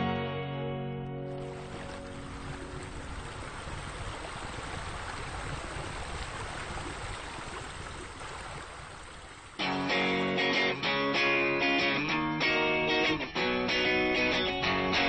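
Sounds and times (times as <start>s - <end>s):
running water rushing: 1.3s - 15.0s.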